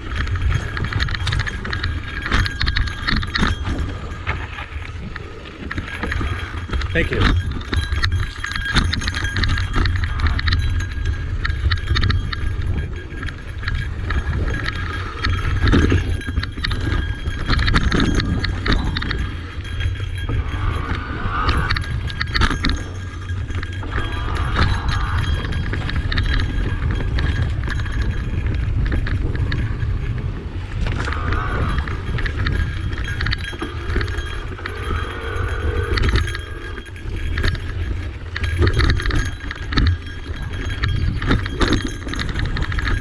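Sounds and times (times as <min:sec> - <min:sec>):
bike clattering over rocks: 0:00.0 - 0:35.0, 0:35.9 - 0:43.0
wind rumble on microphone: 0:00.0 - 0:43.0.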